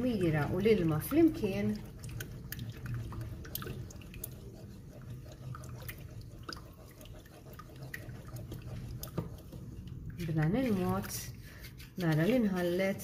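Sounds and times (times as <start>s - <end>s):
liquid swishing in a bowl: 0.0s - 13.0s.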